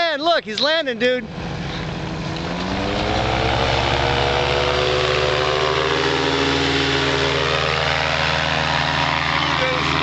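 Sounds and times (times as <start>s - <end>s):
propeller plane passing: 0.9s - 10.0s.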